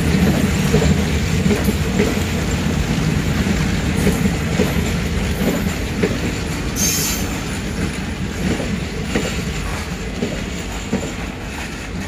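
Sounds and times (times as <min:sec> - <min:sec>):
train rumble: 0:00.0 - 0:12.0
train wheels clacking over joints: 0:00.0 - 0:12.0.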